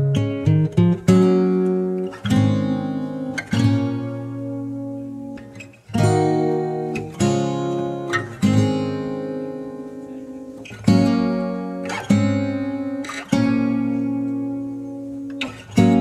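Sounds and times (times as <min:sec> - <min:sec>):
guitar strumming slow chords: 0:00.0 - 0:16.0.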